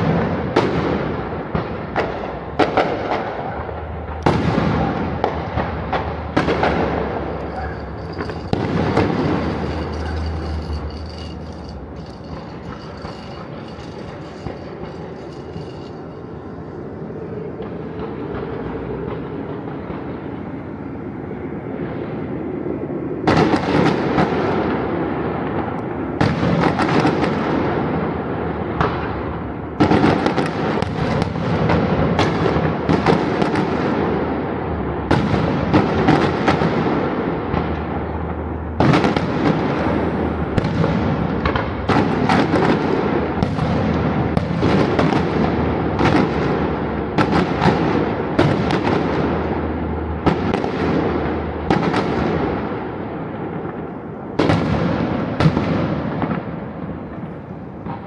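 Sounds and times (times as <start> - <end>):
fireworks bangs with crackling: 0.0 - 20.4, 23.2 - 58.0.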